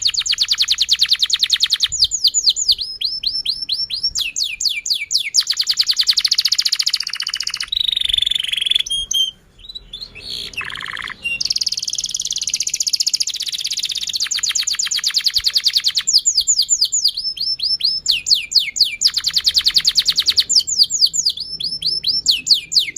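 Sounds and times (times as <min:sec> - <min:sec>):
canary singing: 0:00.0 - 0:22.9.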